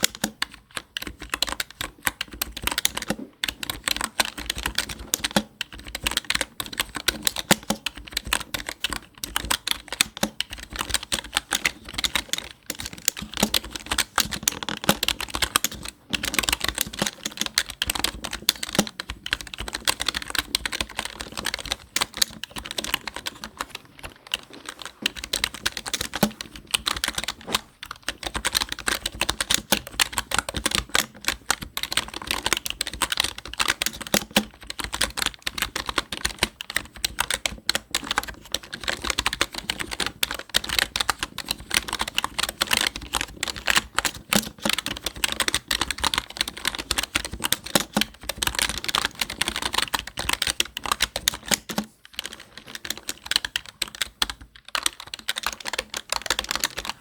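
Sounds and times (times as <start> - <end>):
fast typing on keyboard: 0.0 - 57.0.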